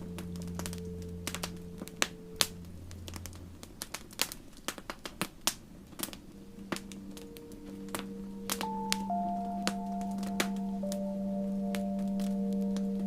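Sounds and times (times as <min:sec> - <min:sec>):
wood fire crackling and popping: 0:00.0 - 0:11.0
low hiss: 0:00.0 - 0:13.0
soft ambient music: 0:00.0 - 0:13.0.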